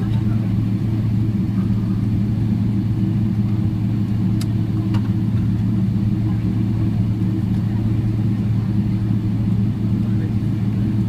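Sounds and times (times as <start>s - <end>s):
low aircraft cabin hum: 0.0s - 11.0s.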